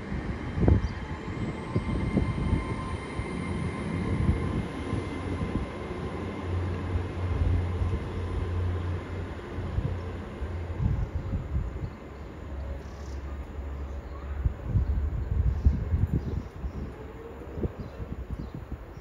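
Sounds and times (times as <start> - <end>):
diesel train engine hum: 0.0 - 18.9
wheel and rail rumble: 0.0 - 18.9.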